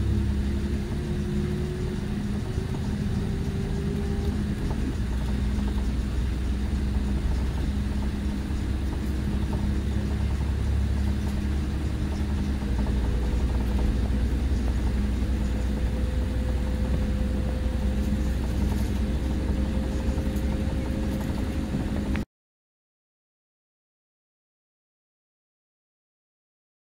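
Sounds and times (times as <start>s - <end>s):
diesel coach engine running: 0.0s - 22.3s.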